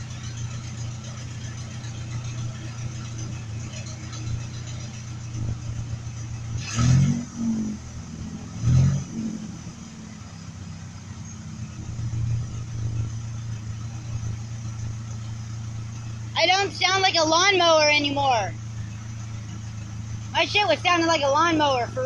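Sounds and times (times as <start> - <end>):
truck engine idling: 0.0 - 22.0
truck engine revving: 0.0 - 22.0.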